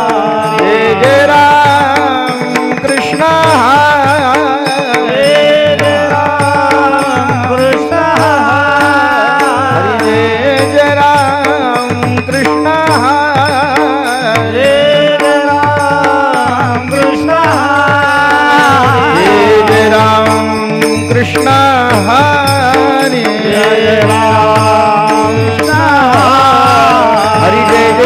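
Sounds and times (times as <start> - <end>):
drum beat: 0.0 - 28.0
man singing devotional song: 0.0 - 28.0.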